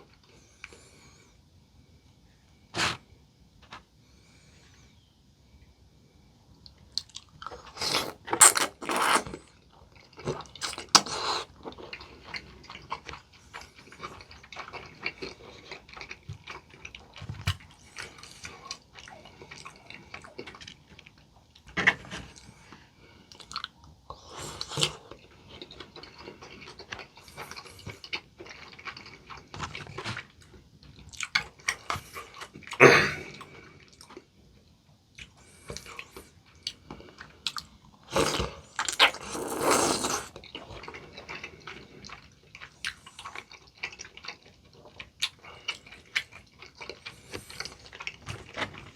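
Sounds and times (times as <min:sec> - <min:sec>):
chewing crispy fried chicken: 0:06.6 - 0:48.9.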